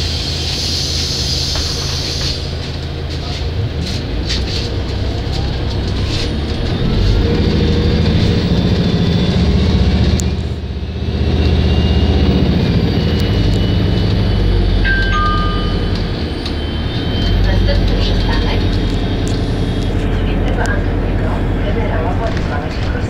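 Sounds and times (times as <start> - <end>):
bus engine and drivetrain: 0.0 - 23.0.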